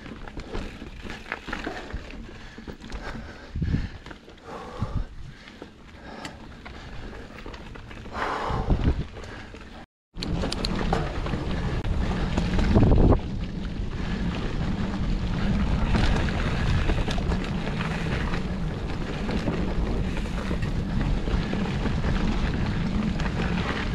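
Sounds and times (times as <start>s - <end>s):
wind rumbling on microphone: 0.0s - 23.9s.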